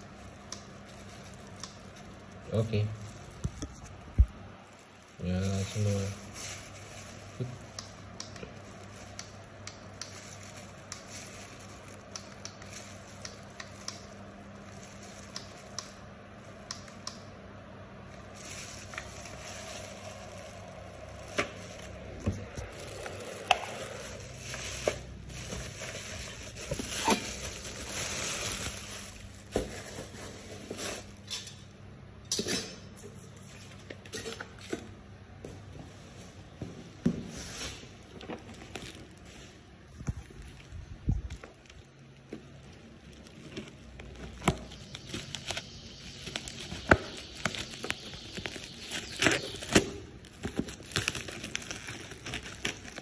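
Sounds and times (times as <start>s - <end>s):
packaging rustling: 0.0s - 17.0s, 18.0s - 31.3s, 37.4s - 53.0s.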